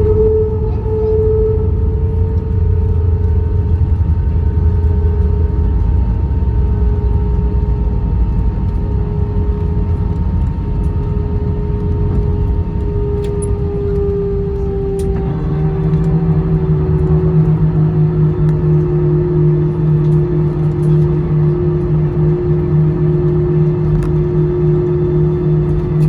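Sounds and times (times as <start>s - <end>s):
airplane cabin rumble: 0.0s - 26.0s
jet engine whine: 0.0s - 26.0s.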